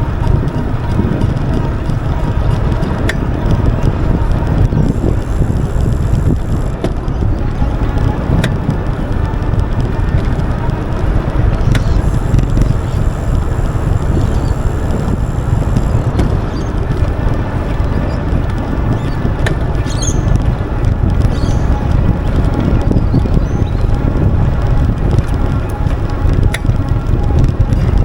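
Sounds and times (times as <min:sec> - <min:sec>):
bike pedal clicks: 0:00.0 - 0:28.0
bike rolling noise: 0:00.0 - 0:28.0
wind buffeting microphone: 0:00.0 - 0:28.0.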